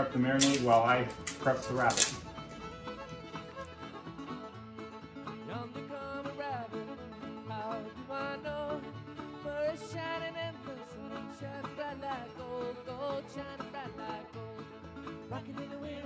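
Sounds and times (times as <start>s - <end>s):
bluegrass music: 0.0s - 16.0s.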